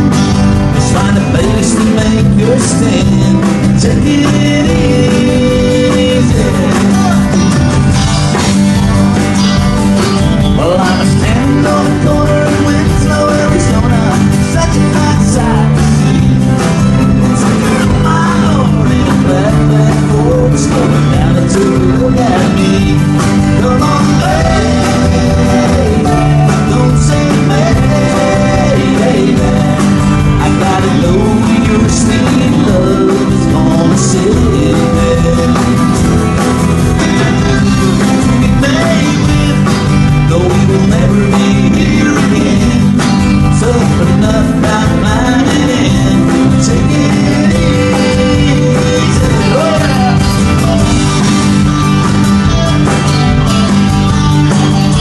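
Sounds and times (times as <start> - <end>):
person singing: 0.0 - 8.0, 10.4 - 51.4
live country rock band: 0.0 - 55.0.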